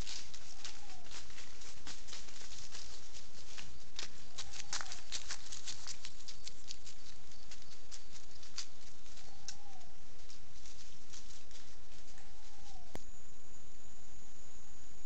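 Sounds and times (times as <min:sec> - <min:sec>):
footsteps crackling in dry leaves: 0:00.0 - 0:13.0.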